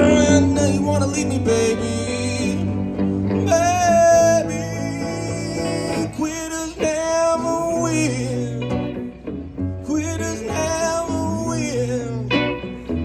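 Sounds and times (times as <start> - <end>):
electric guitars playing blues-country: 0.0 - 13.0.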